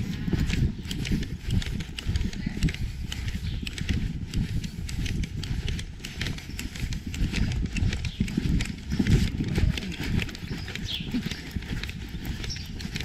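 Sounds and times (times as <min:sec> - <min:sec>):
horse hoofbeats clicking: 0:00.0 - 0:13.0
steady low rumble: 0:00.0 - 0:13.0.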